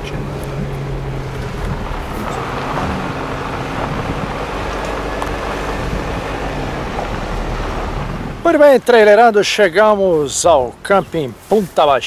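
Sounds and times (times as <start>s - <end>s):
wind noise: 0.0s - 11.8s
tyres rumbling on dirt: 0.0s - 12.0s
vehicle engine hum: 0.0s - 12.0s.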